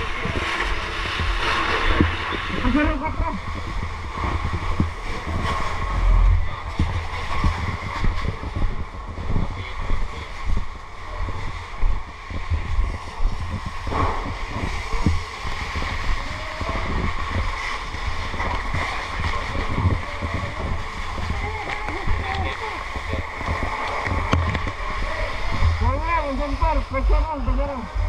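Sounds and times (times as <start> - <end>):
microphone handling noise: 0.0 - 28.0
wind rumbling on microphone: 0.0 - 28.0.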